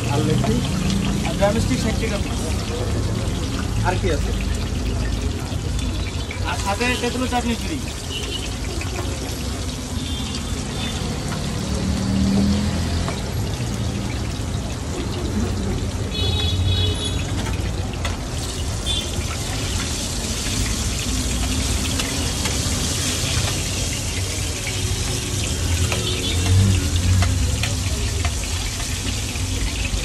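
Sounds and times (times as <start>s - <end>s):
chicken deep-frying in oil: 0.0s - 30.0s.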